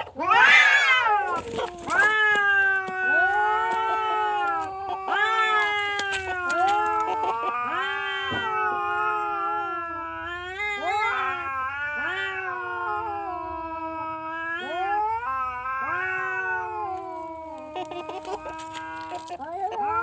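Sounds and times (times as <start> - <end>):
cat yowling: 0.0 - 20.0.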